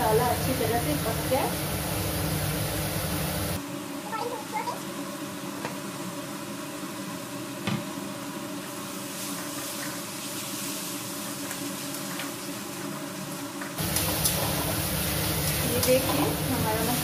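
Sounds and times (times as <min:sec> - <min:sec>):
masala sizzling in pan: 0:00.0 - 0:03.6, 0:05.0 - 0:17.0.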